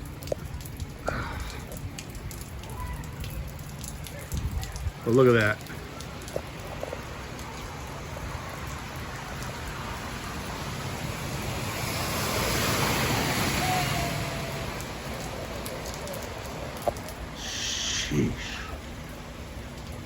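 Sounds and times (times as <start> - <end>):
light rain hissing: 0.0 - 20.0
storm runoff rushing: 0.0 - 20.0.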